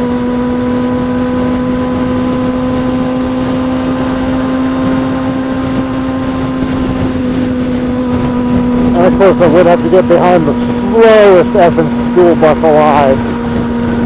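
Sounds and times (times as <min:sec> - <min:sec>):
road and wind noise: 0:00.0 - 0:14.0
vehicle engine drone: 0:00.0 - 0:14.0.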